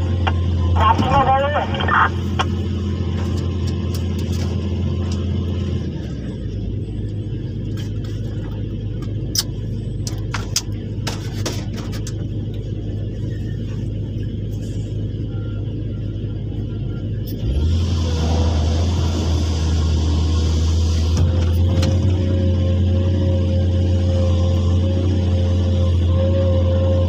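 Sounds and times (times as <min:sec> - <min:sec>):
excavator engine droning: 0:00.0 - 0:27.0.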